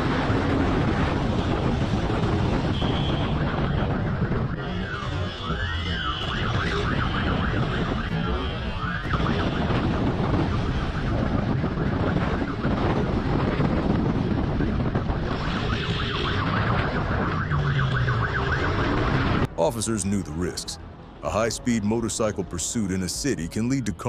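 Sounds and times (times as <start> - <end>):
police siren: 0.0 - 20.7.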